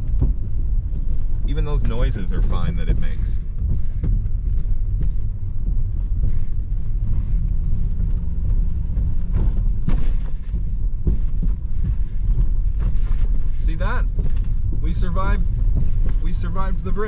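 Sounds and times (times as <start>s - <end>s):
bridge deck knocks and clunks: 0.0s - 17.0s
tyres rumbling across bridge: 0.0s - 17.0s.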